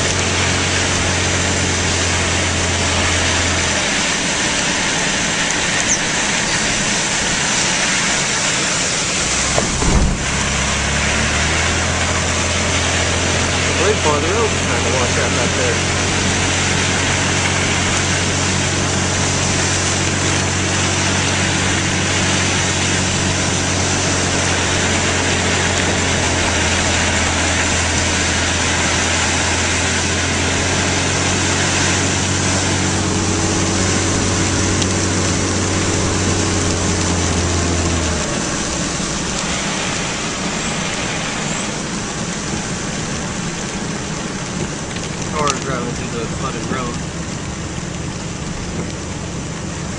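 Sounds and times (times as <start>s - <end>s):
car engine idling: 0.0s - 49.9s
heavy rain: 0.0s - 49.9s.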